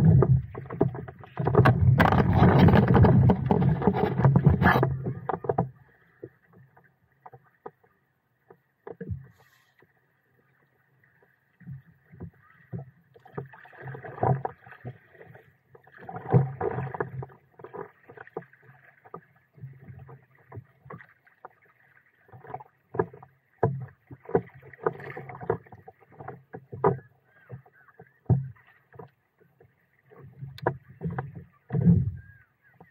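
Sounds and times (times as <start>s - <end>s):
water slapping against hull: 0.0s - 9.8s, 11.1s - 32.9s
paddle strokes in water: 0.0s - 32.9s.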